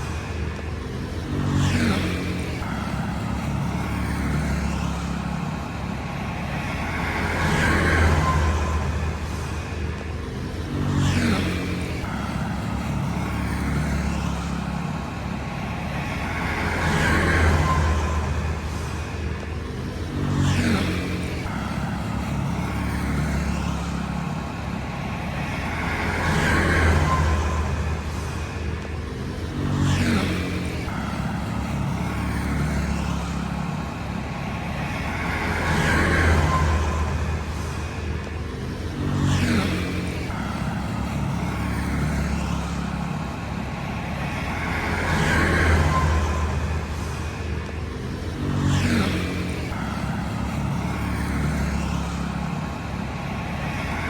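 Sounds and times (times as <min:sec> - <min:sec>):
traffic engine hum: 0:00.0 - 0:54.0
vehicle passing by: 0:00.0 - 0:54.0.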